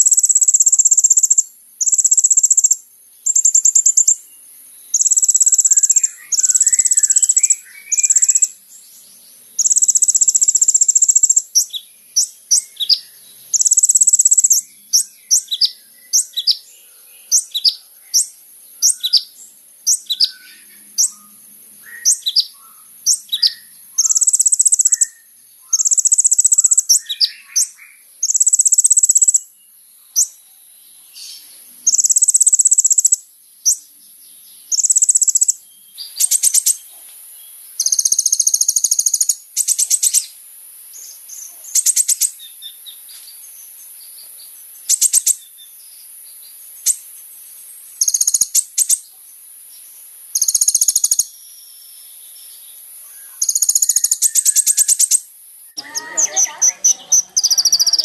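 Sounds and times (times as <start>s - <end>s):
steady high hiss: 0.0s - 58.0s
sunbird chirping and trilling: 0.0s - 58.0s.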